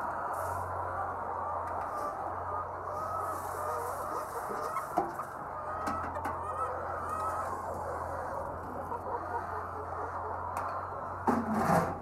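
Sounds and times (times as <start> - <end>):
flock of hens clucking: 0.0 - 12.0.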